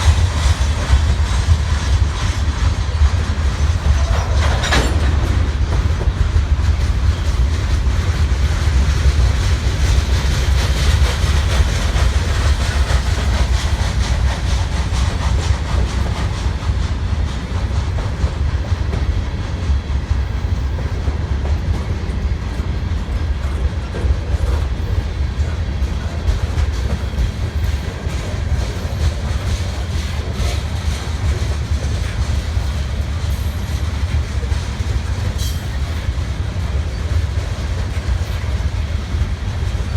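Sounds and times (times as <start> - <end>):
freight train rumbling past: 0.0 - 39.9
wheels clicking over rail joints: 0.1 - 39.9.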